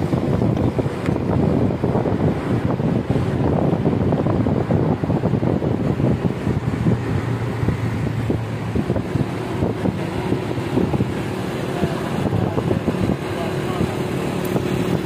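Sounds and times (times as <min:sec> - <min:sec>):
car road noise rumble: 0:00.0 - 0:15.0
engine hum: 0:00.0 - 0:15.0
wind gusting on microphone: 0:00.0 - 0:15.0.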